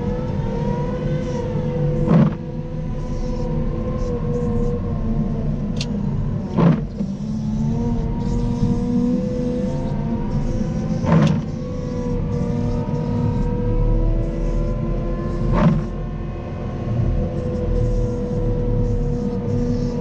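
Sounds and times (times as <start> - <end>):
diesel engine rumbling with whine: 0.0 - 20.0
snow plow pushing along road: 0.0 - 20.0.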